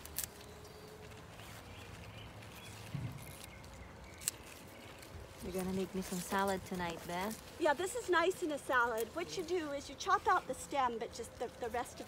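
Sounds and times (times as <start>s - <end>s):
pruning shears snipping stems: 0.0s - 12.0s
quiet outdoor background noise: 0.0s - 12.0s.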